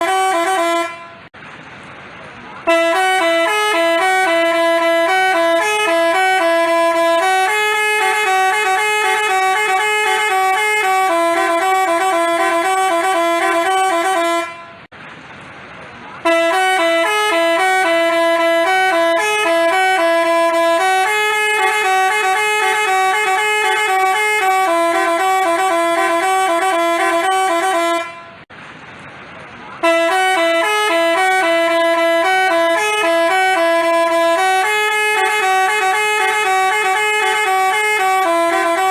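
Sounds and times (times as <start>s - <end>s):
multi-tone bus horn tune: 0.0s - 1.4s, 2.6s - 14.9s, 16.2s - 28.5s, 29.8s - 38.9s.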